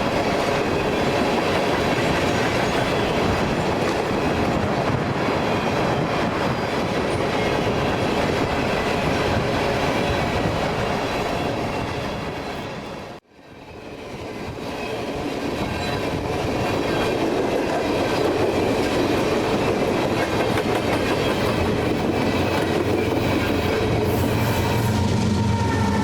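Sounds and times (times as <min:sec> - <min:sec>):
freight train wheels rumbling over rails: 0:00.0 - 0:26.0.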